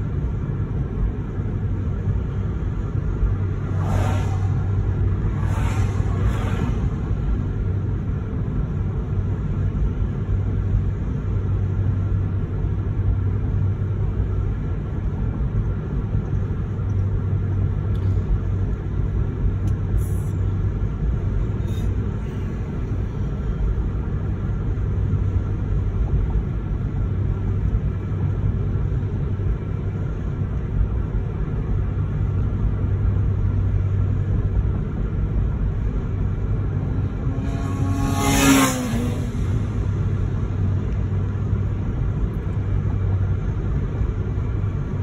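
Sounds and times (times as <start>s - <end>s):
car rumble inside cabin: 0.0s - 45.0s.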